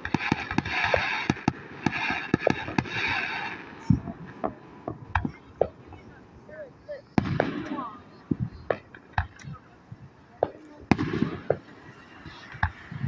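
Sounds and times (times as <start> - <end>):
fireworks bangs: 0.0 - 13.0
fireworks hissing crackle: 0.0 - 13.0.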